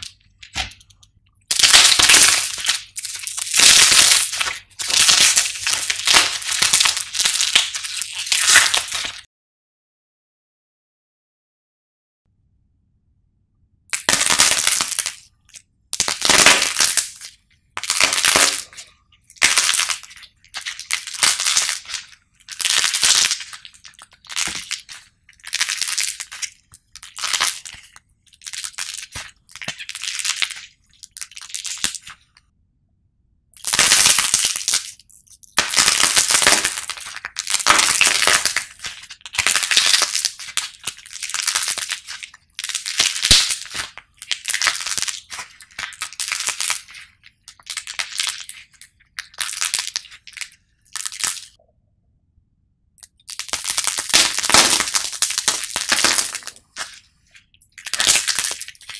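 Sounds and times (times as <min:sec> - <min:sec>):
clay figure coating crackling: 0:00.0 - 0:09.3, 0:13.9 - 0:32.4, 0:33.6 - 0:51.6, 0:53.0 - 0:58.9.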